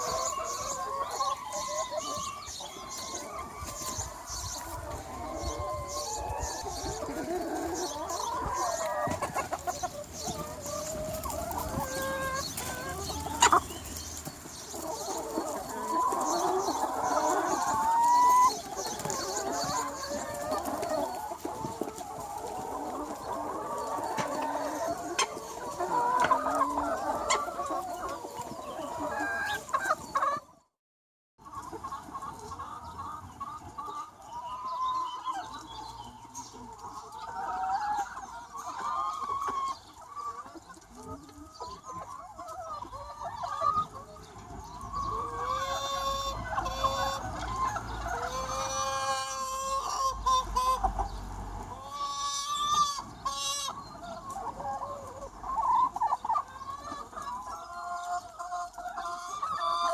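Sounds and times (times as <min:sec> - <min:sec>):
hens clucking: 0:00.0 - 0:30.7, 0:31.4 - 0:59.9.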